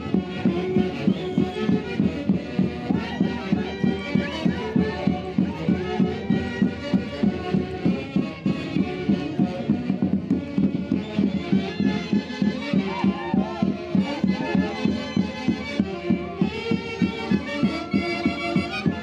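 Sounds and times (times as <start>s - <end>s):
reedy wind instruments: 0.0s - 19.0s
steady drum beat: 0.0s - 19.0s.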